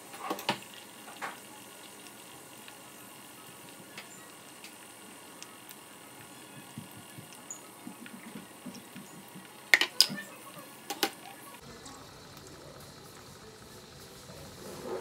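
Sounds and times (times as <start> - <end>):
butter bubbling in a pan: 0.0 - 15.0.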